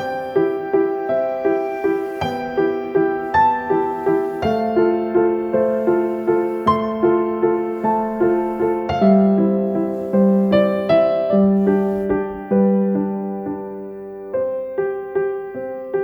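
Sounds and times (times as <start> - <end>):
gentle solo piano piece: 0.0 - 16.0.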